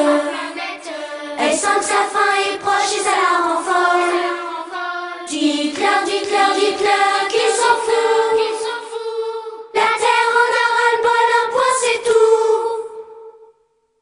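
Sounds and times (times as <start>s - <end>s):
pop song accompaniment: 0.0s - 13.0s
choir singing held notes: 0.0s - 13.4s.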